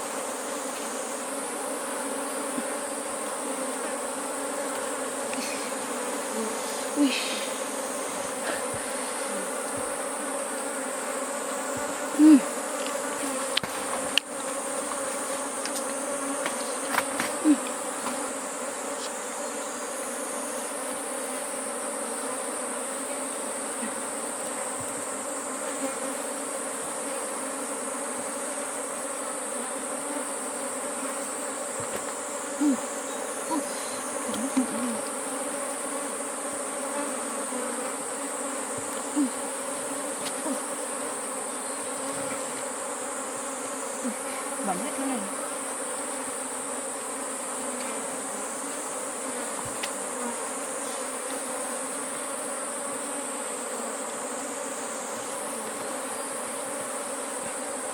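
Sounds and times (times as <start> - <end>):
bees swarm buzzing: 0.0 - 57.9
single bee buzzing past: 0.0 - 57.9.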